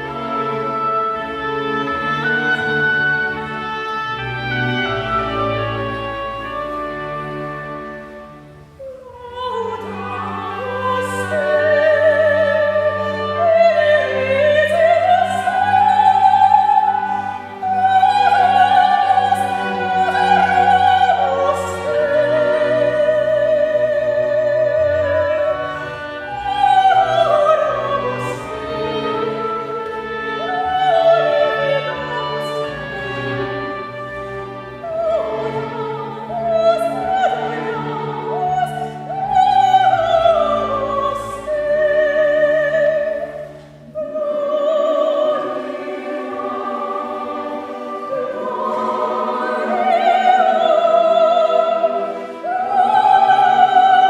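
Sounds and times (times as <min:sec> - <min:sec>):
classical solo voice singing: 0:00.0 - 0:54.0
sustained orchestral strings: 0:00.0 - 0:54.0.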